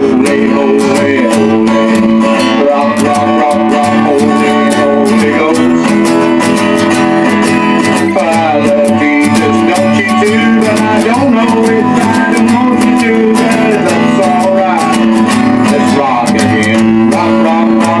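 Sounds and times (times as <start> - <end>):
guitar strumming chords: 0.0 - 18.0.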